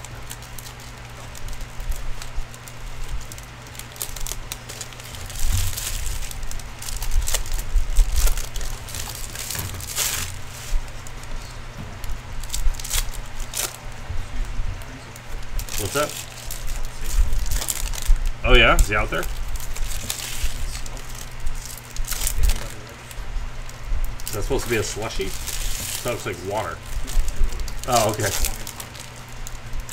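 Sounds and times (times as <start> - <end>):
foil wrappers crinkling: 0.0 - 29.9
steady low hum: 0.0 - 29.9.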